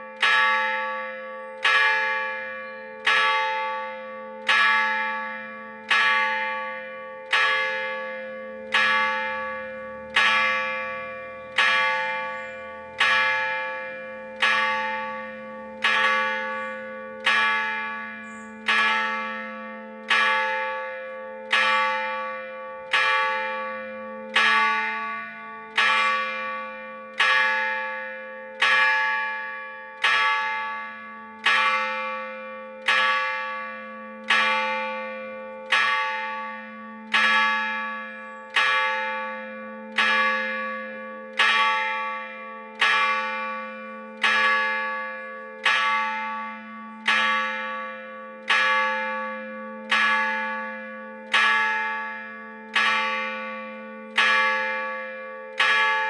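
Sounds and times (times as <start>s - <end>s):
church bell struck by hammer: 0.0s - 56.0s.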